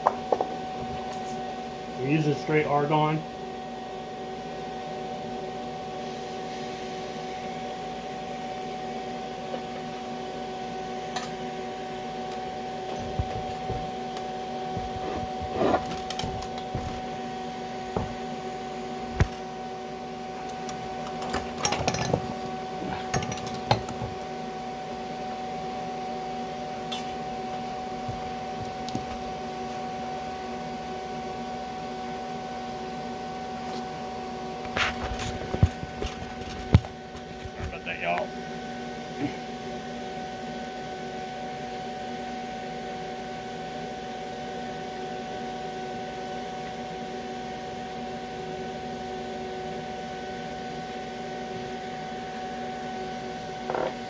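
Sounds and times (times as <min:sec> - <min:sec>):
welder electrical hum and hiss: 0:00.0 - 0:54.0.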